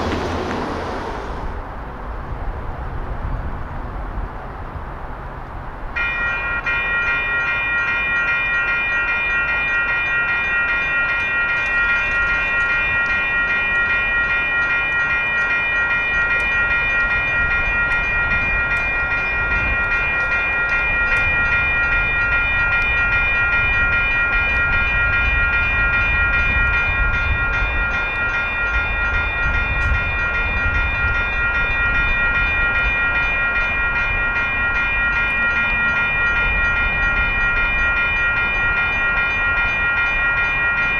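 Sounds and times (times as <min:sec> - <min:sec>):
crossing warning bell ringing: 0:05.9 - 0:40.9.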